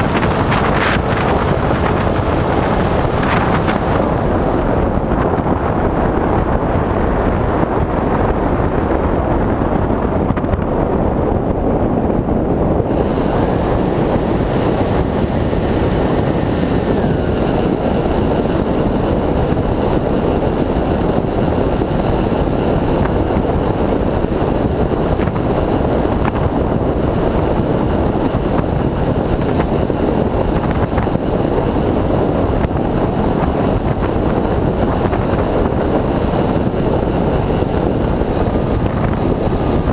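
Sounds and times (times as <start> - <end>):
thin motor and propeller whine: 0.0 - 39.9
wind buffeting microphone: 0.0 - 39.9.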